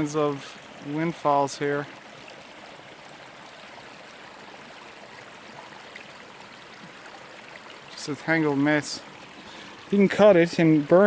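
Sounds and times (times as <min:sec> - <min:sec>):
stream flowing: 0:00.0 - 0:11.0.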